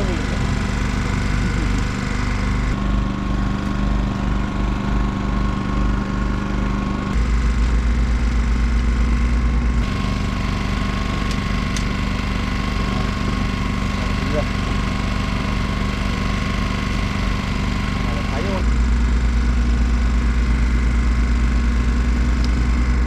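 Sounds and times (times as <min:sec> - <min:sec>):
boat engine throbbing: 0:00.0 - 0:23.0.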